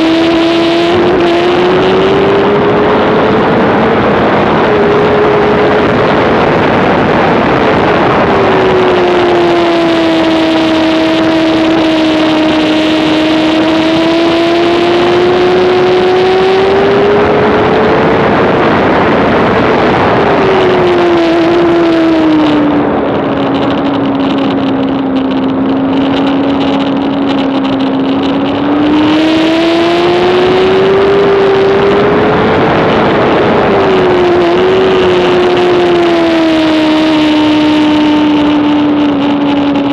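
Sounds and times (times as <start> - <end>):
loud wind rush: 0.0 - 39.9
motorcycle engine at high revs: 0.0 - 39.9.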